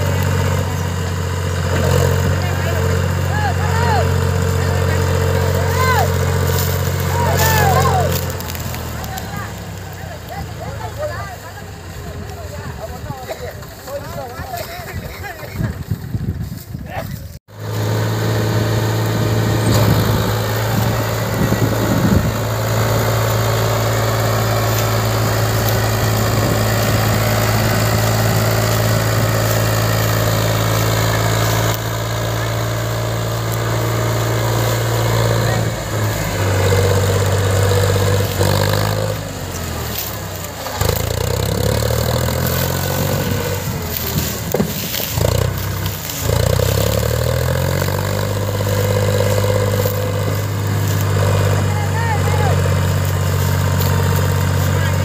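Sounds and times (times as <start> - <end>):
tractor diesel engine revving: 0.0 - 16.5, 17.4 - 55.0.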